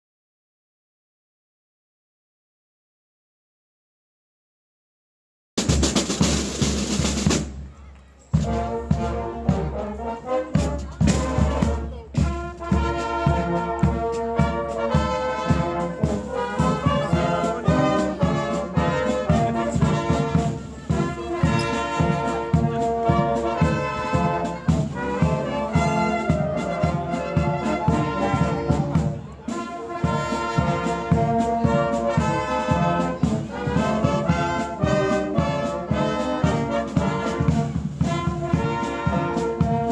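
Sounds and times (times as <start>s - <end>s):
steady drum beat: 5.6s - 7.7s, 8.4s - 39.9s
brass band playing a march: 5.6s - 39.9s.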